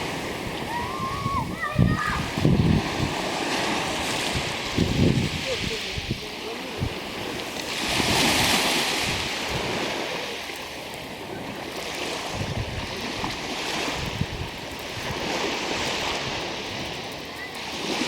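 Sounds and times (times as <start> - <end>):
waves washing onto pebble beach: 0.0 - 18.0.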